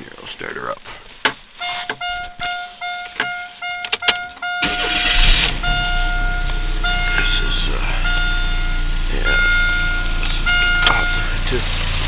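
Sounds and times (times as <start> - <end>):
car engine idling: 0.0 - 12.0
dashboard warning chime: 1.6 - 11.4.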